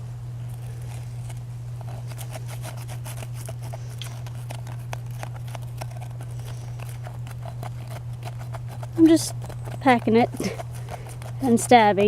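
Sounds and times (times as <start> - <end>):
steady low hum: 0.0 - 12.0
stick scraping dirt: 0.4 - 12.0.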